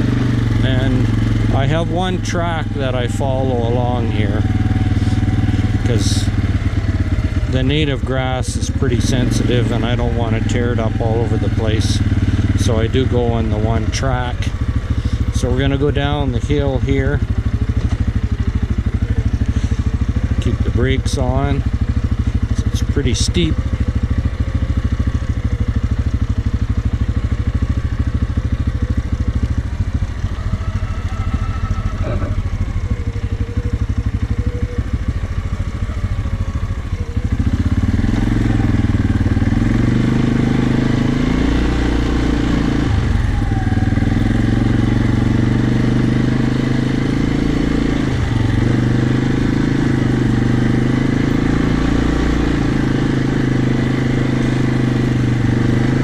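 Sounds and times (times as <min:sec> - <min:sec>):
quad engine running in low gear: 0:00.0 - 0:56.0.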